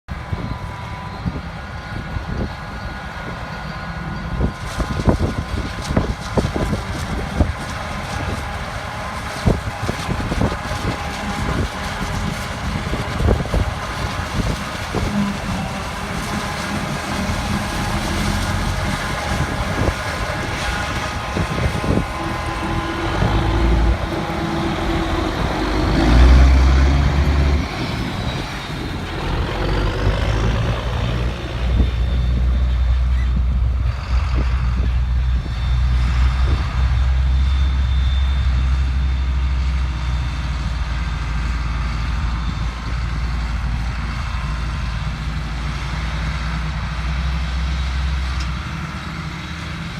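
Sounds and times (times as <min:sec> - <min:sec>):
harvester engine running: 0:00.1 - 0:49.9.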